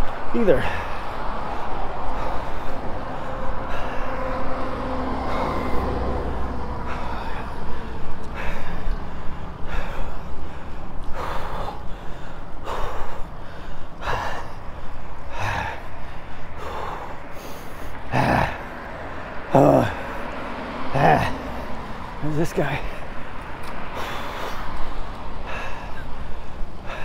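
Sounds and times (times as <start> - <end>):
person breathing heavily: 0.0 - 27.0
wind and road rumble: 0.0 - 27.0.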